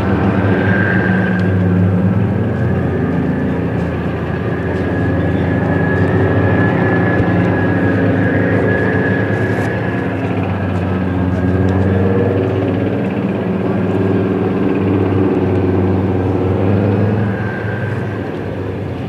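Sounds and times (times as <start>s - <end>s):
high whine: 0.0s - 19.0s
tracked armoured vehicles driving: 0.0s - 19.0s.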